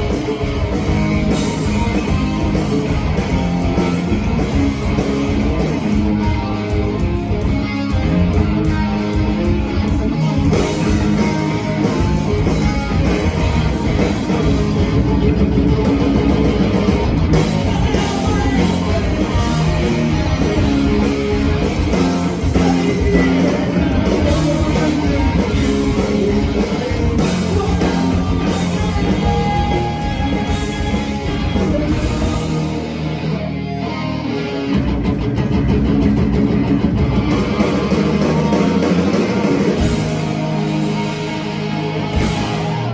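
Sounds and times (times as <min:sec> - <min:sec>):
rock band playing loud: 0:00.0 - 0:42.9.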